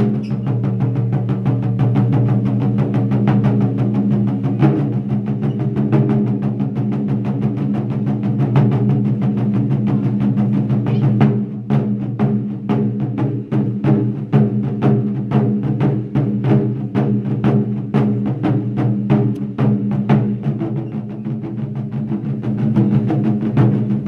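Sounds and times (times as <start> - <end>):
taiko drums playing: 0.0 - 24.0.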